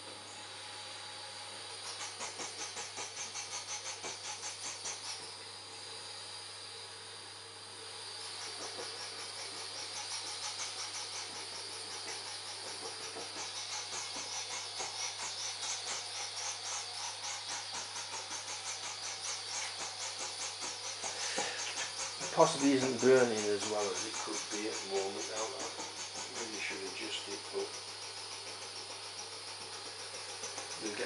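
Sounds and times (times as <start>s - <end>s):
gas burner hissing with fluttering: 0.0s - 31.0s.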